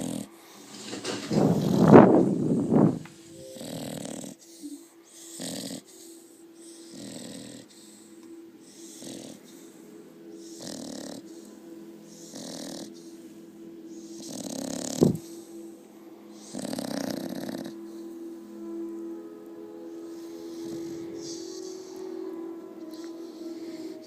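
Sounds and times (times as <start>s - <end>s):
dog snoring: 0.0s - 15.7s, 16.4s - 18.2s, 20.0s - 24.0s.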